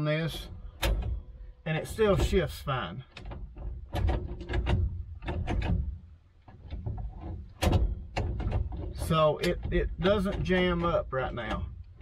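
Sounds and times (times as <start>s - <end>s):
gear shift lever clunking: 0.3s - 12.0s.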